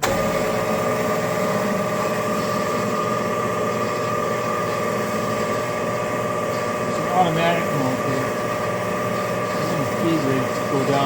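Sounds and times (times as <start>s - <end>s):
band saw running: 0.0s - 11.0s.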